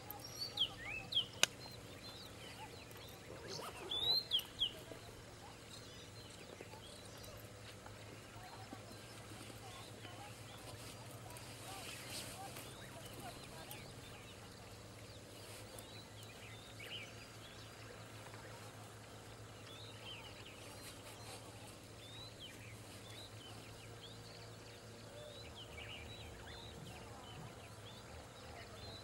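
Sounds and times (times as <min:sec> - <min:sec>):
birds chirping and whistling: 0:00.0 - 0:07.4, 0:11.4 - 0:29.0.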